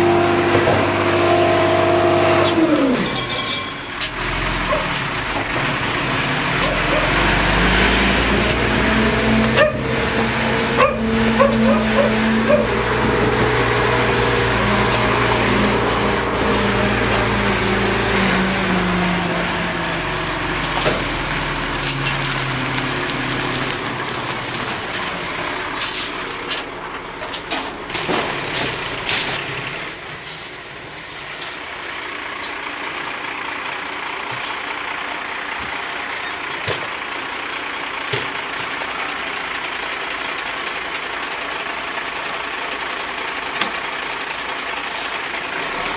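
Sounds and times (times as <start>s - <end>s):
garbage truck engine running: 0.0s - 45.9s.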